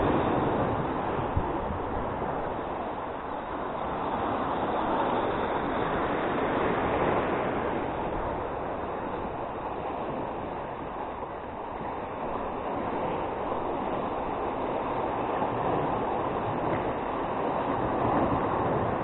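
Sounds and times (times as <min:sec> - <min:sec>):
waves breaking on boulders: 0:00.0 - 0:19.0.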